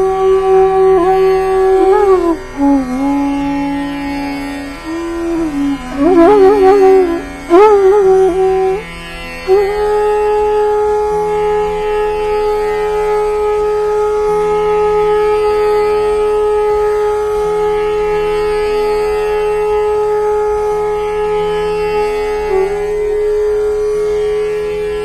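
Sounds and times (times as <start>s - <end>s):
classical music held note: 0.0s - 25.0s
lower accompanying notes: 0.0s - 25.0s.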